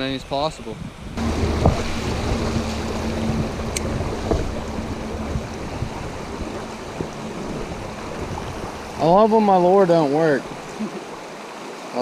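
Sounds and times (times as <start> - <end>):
wind on microphone: 0.0 - 11.1
creek flowing: 1.2 - 12.0.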